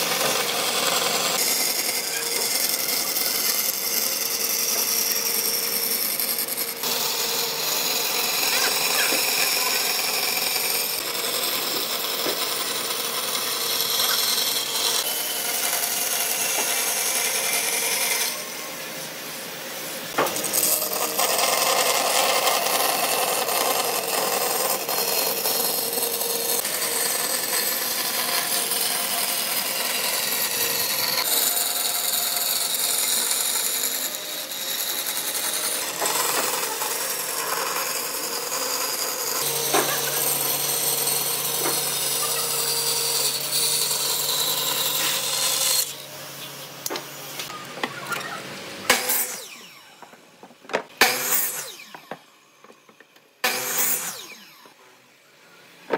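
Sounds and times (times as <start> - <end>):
power tool sanding wood: 0.0 - 48.2.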